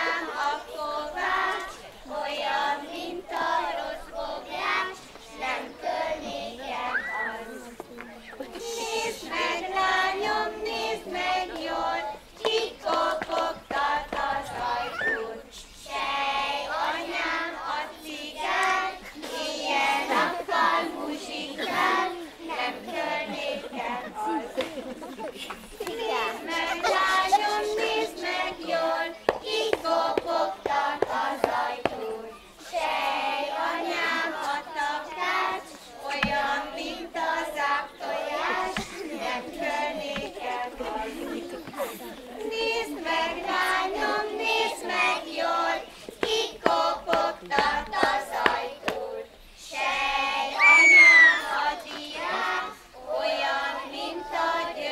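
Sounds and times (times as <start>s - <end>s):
children singing folk song: 0.0s - 54.9s.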